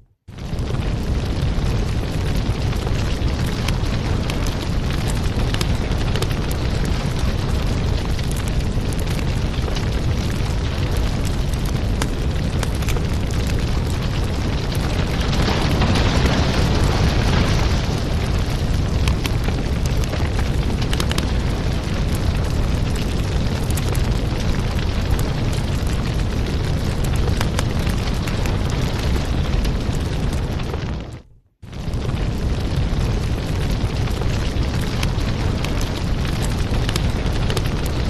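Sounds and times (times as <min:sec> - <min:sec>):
low roar of flames: 0:00.3 - 0:38.0
wood fire crackling: 0:00.3 - 0:38.0.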